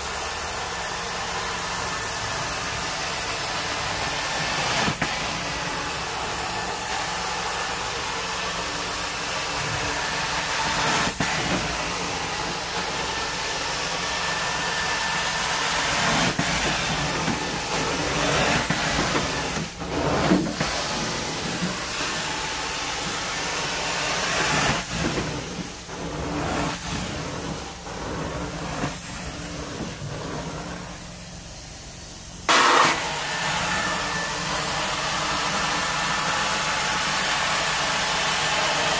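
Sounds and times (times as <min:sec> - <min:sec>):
vacuum suction hiss: 0:00.0 - 0:38.9.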